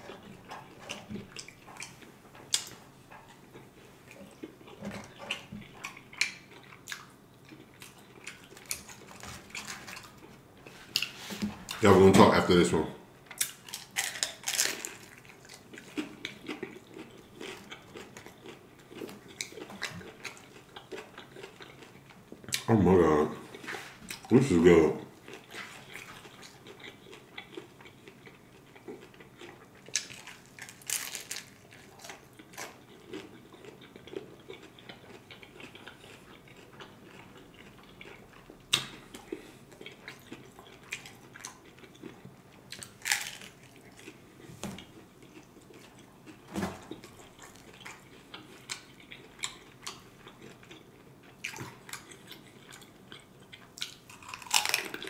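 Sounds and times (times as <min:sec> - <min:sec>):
taco shell crunching: 0:00.0 - 0:11.1, 0:13.4 - 0:22.7, 0:25.3 - 0:44.2, 0:44.8 - 0:55.0
quiet chewing: 0:00.0 - 0:11.9, 0:13.2 - 0:55.0.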